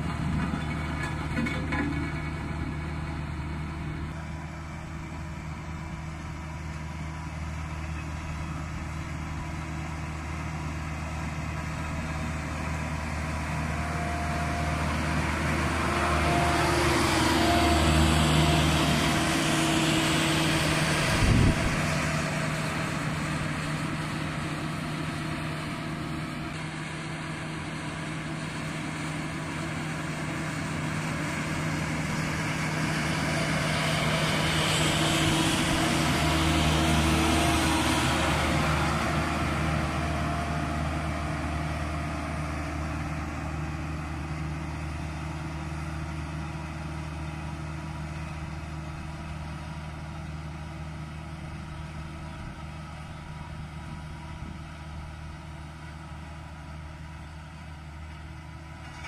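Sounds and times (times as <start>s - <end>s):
road roller diesel engine: 0.0s - 59.0s.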